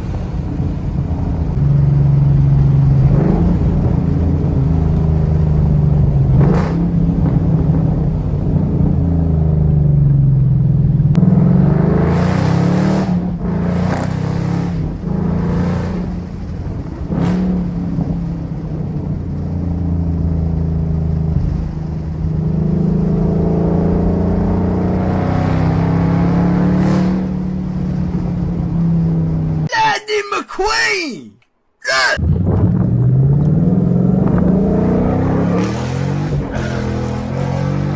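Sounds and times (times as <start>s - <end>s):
car engine revving: 0.0s - 10.1s, 11.1s - 29.6s, 32.2s - 37.9s.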